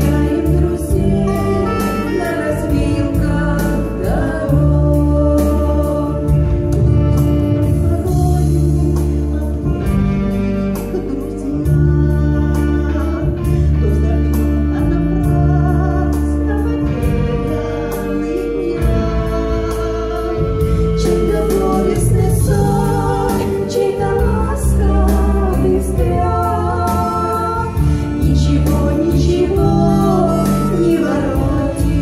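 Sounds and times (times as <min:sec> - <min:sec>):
bass line: 0:00.0 - 0:32.0
sustained organ-like chords: 0:00.0 - 0:32.0
two women singing: 0:00.0 - 0:32.0.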